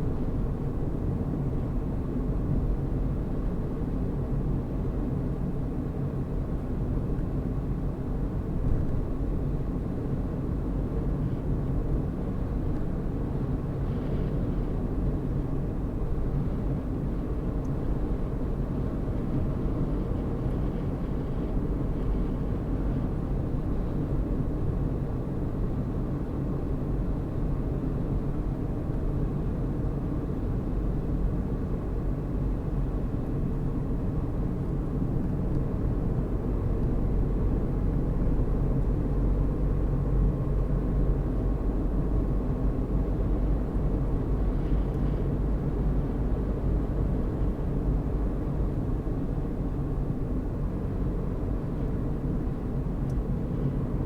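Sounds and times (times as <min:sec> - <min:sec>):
car driving road noise: 0:00.0 - 0:54.0.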